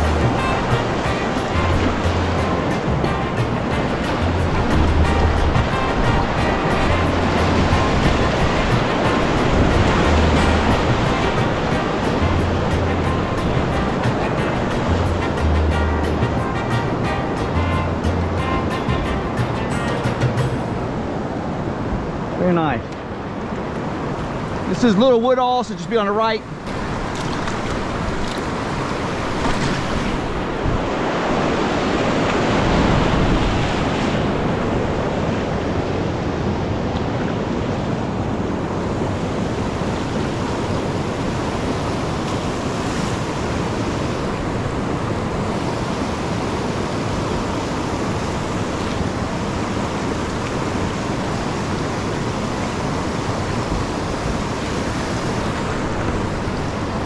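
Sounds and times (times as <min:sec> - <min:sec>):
wind on microphone: 0:00.0 - 0:22.2, 0:26.8 - 0:57.0
creek whitewater rushing: 0:00.0 - 0:57.0.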